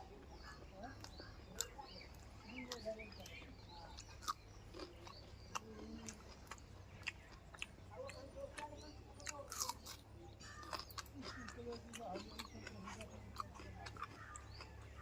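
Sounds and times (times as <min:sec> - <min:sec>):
person chewing food: 0:00.9 - 0:15.0.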